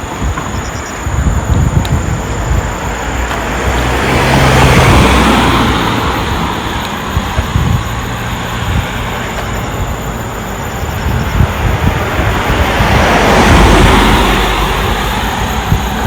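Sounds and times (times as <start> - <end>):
vehicle passing by: 2.4 - 16.0.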